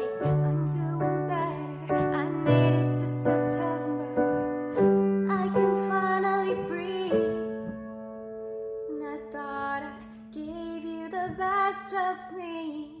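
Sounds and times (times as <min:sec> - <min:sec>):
woman singing a slow song: 0:00.0 - 0:07.8, 0:08.9 - 0:13.0
piano keyboard chords: 0:00.0 - 0:12.4.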